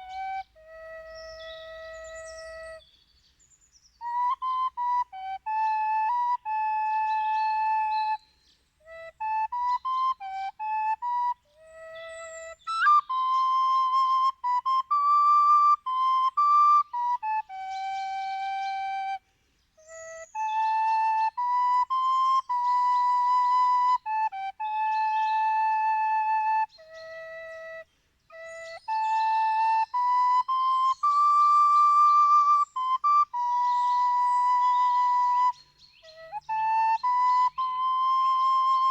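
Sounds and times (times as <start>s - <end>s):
solo flute melody: 0.0s - 3.0s, 3.6s - 38.9s.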